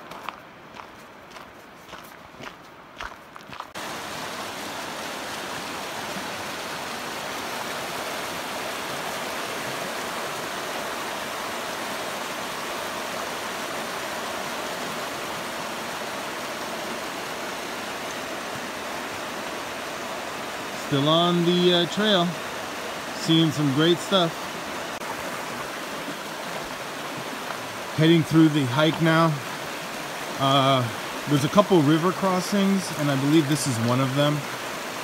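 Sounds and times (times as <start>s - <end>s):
river rushing over stones: 3.7s - 35.0s.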